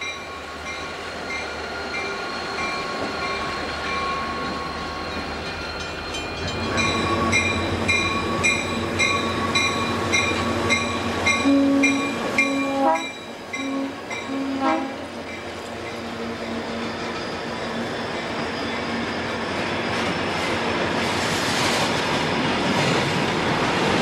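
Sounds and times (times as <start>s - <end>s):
locomotive bell ringing: 0.0s - 20.4s
diesel locomotives passing: 0.0s - 24.0s.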